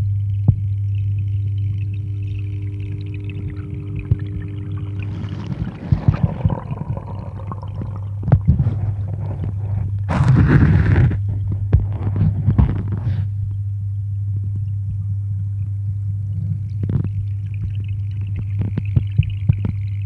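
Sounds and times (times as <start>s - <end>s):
pond pump hum underwater: 0.0s - 20.0s
crackles and knocks: 0.3s - 13.6s, 16.4s - 20.0s.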